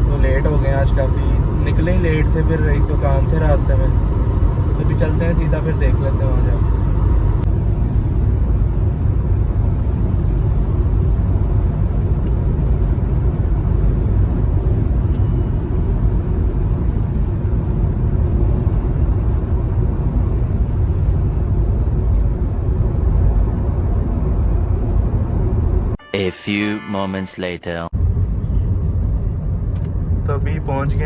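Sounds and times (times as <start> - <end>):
car driving engine and tyre rumble: 0.0 - 26.0, 28.0 - 31.0.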